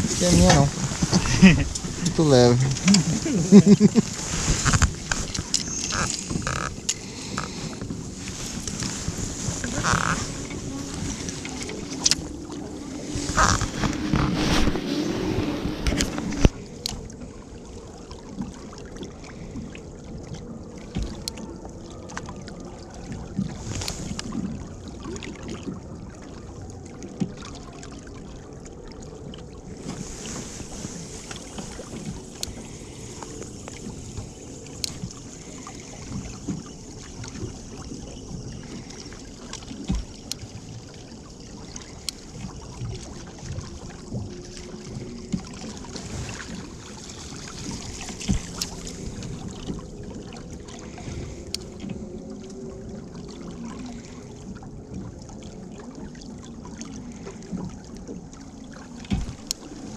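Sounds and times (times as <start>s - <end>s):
wind and water hiss: 0.0s - 59.9s.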